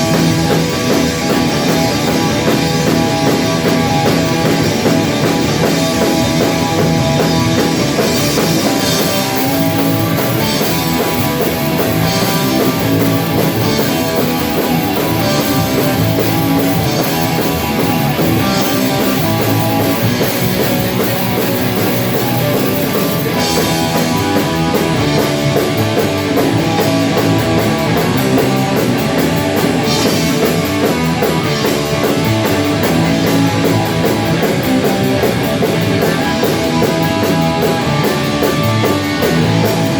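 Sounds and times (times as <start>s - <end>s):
rapid high ticking: 0.0s - 36.1s
drum kit: 0.0s - 39.9s
heavy guitars: 0.0s - 39.9s.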